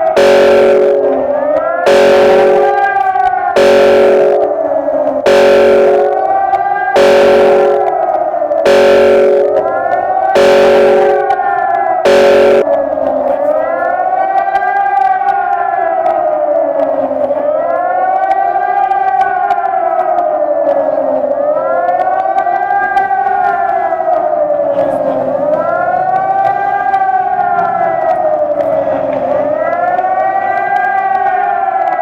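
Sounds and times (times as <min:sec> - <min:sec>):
warning siren wavering: 0:00.0 - 0:12.9, 0:13.6 - 0:32.0.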